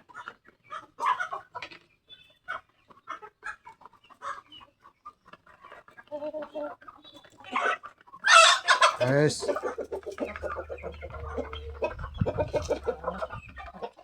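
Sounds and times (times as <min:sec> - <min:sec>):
chickens clucking: 0:00.1 - 0:14.0.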